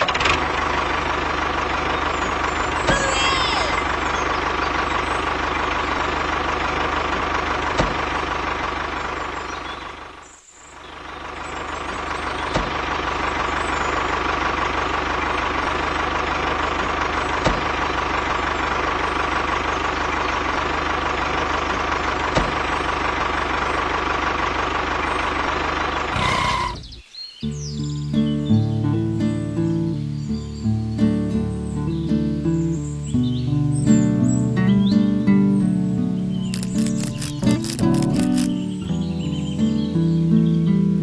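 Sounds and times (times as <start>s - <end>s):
diesel tractor engine idling: 0.0s - 27.0s, 28.5s - 41.0s.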